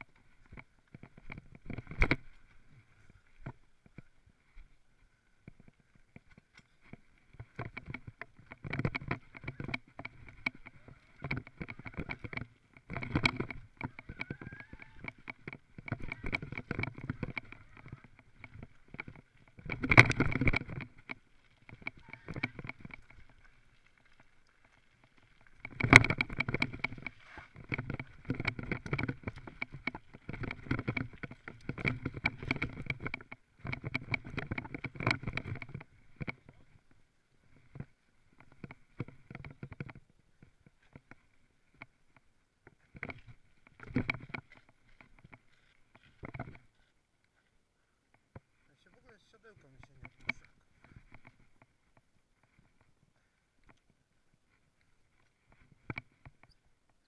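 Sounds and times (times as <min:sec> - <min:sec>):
mountain bike rattling on dirt trail: 0:00.0 - 0:57.0.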